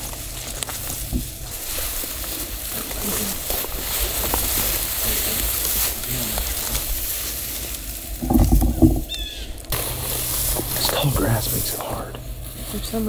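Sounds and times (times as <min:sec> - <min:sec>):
grass rustling against legs: 0:00.0 - 0:13.0
low rumble: 0:00.0 - 0:13.0.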